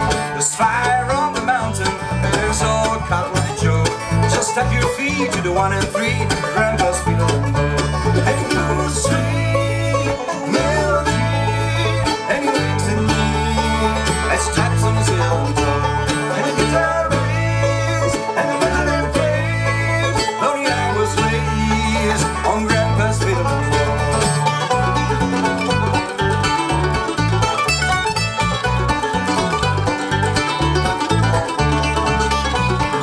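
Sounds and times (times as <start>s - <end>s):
acoustic guitar: 0.0s - 33.0s
banjo rolls: 0.0s - 33.0s
mandolin: 0.0s - 33.0s
stepping bass line: 0.0s - 33.0s.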